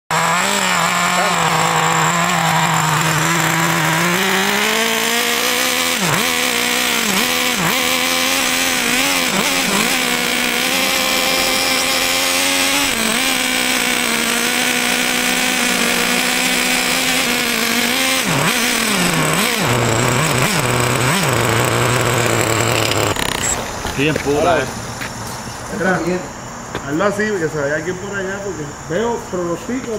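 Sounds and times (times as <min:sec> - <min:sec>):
small engine running: 0:00.1 - 0:26.0.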